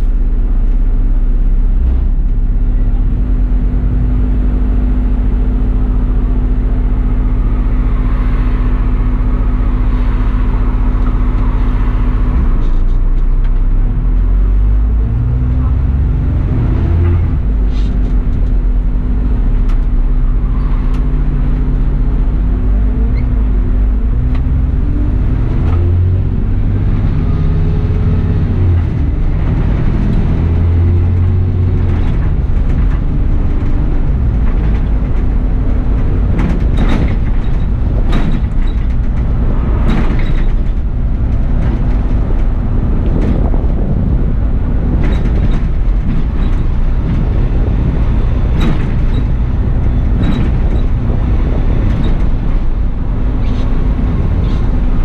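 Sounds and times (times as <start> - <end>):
bus body rattles and clicks: 0.0 - 55.0
bus engine and road rumble: 0.0 - 55.0.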